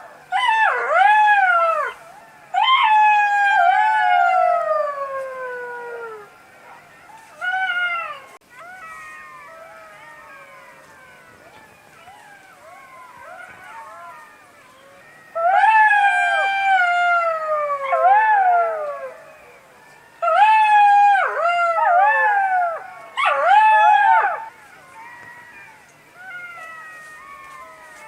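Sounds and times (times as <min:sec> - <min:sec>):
jackals howling: 0:00.0 - 0:28.0.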